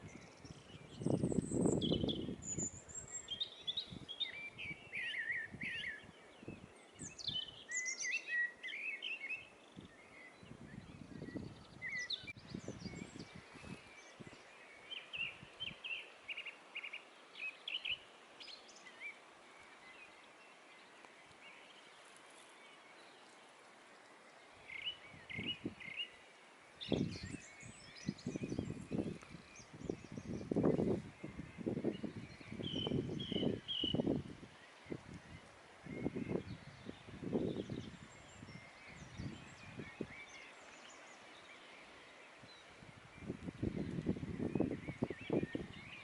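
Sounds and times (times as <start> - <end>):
songbirds singing: 0.0 - 46.0.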